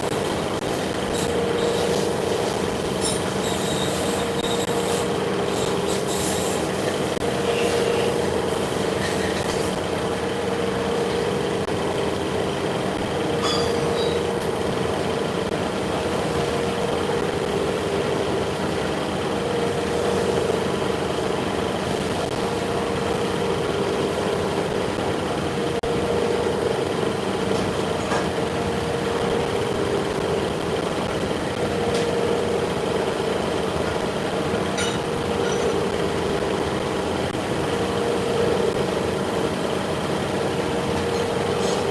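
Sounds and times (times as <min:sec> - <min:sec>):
machinery running with hum: 0:00.0 - 0:41.9.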